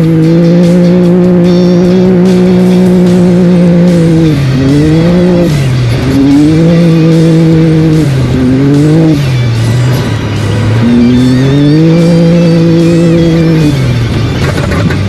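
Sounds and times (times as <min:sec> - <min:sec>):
engine revving high: 0:00.0 - 0:15.0.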